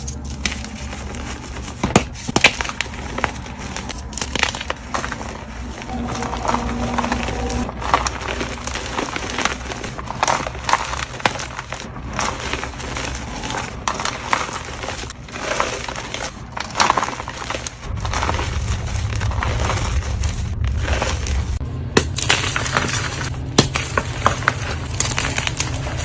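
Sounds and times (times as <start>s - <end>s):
chalk crunching and crackling: 0.0s - 26.0s.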